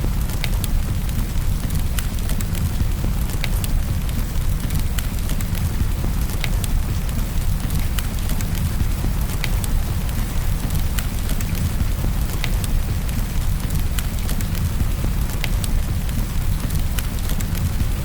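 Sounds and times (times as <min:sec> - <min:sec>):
rain: 0:00.0 - 0:18.0
wood fire crackling and popping: 0:00.0 - 0:18.0.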